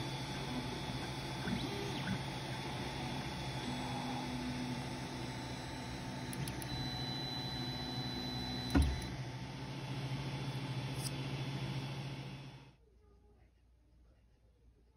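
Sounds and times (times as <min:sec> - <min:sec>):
cooling fans humming: 0:00.0 - 0:12.8.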